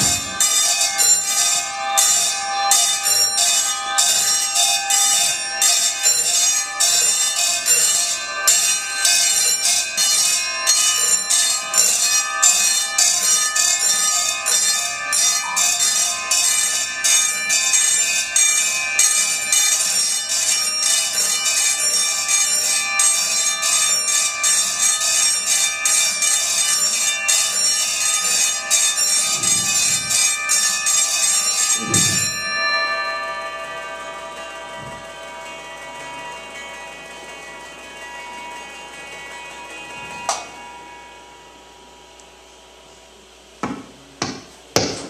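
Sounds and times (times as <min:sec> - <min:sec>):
rapid metallic bell-like strikes: 0:00.0 - 0:42.1
sustained high ringing tones: 0:00.0 - 0:44.8.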